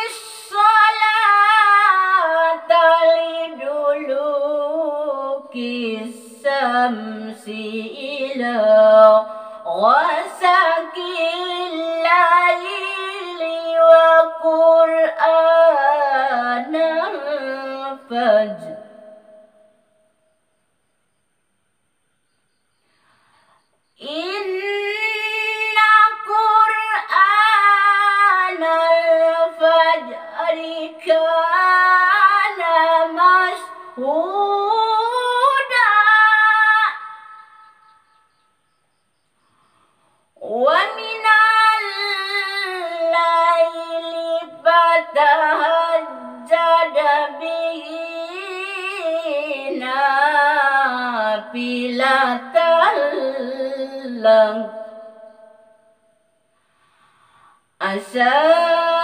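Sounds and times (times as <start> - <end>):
woman reciting melodically: 0.0 - 19.7, 24.0 - 38.2, 40.4 - 55.7, 57.8 - 59.0.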